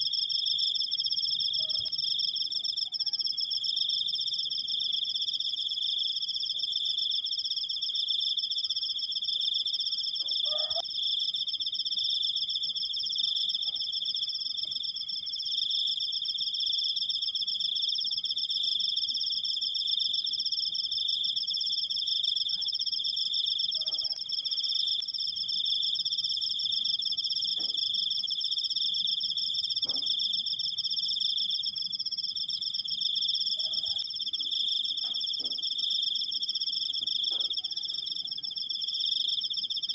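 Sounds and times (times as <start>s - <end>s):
cricket trilling: 0.0s - 39.9s.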